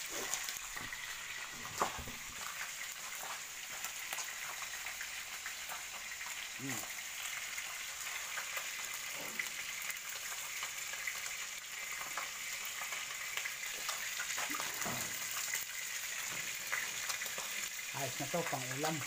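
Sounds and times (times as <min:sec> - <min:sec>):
fish sizzling in oil: 0:00.0 - 0:19.0
oil popping and crackling: 0:00.0 - 0:19.0.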